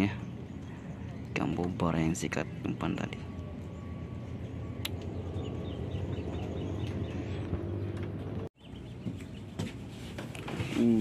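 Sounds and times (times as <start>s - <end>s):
small bird chirping: 0.0s - 10.1s
low outdoor rumble: 0.0s - 11.0s.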